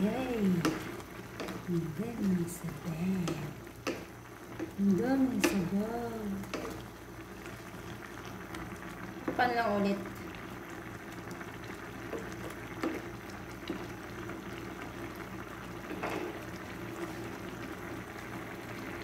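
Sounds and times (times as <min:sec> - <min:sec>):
sauce bubbling in frying pan: 0:00.0 - 0:19.0
sauce popping: 0:00.0 - 0:19.0.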